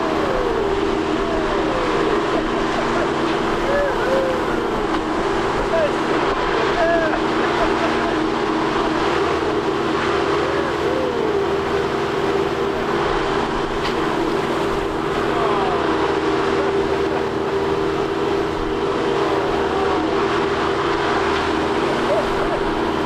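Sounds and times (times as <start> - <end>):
boat motor droning: 0.0 - 23.0.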